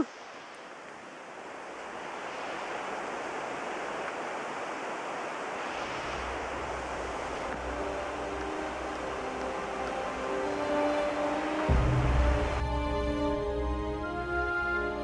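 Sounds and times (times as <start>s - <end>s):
steady rushing noise: 0.0s - 13.8s.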